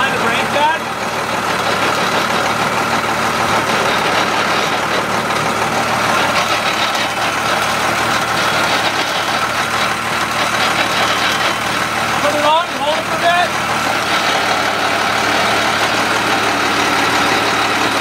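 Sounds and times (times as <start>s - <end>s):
diesel drivetrain running: 0.0s - 18.0s.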